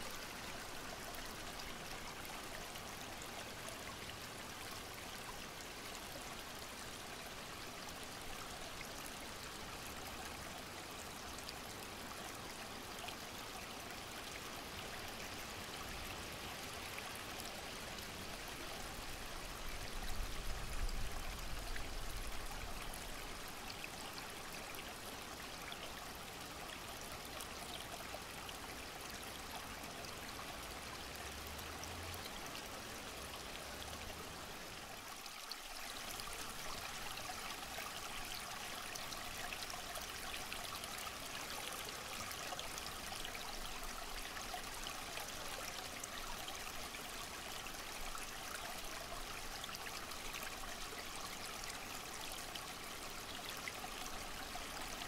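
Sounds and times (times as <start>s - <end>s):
water trickling over stones: 0.0s - 55.0s.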